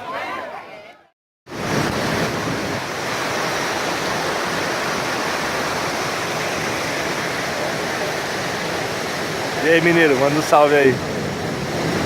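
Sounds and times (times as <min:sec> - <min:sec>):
waterfall rushing: 0:01.5 - 0:12.0.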